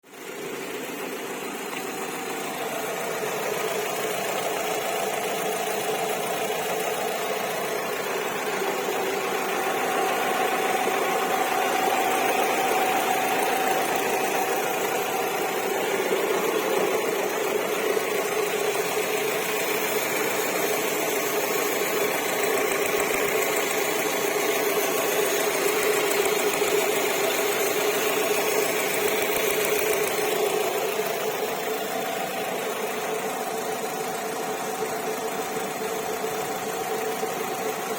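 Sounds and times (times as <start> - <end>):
car engine idling with ticking chirp: 0.1 - 37.9.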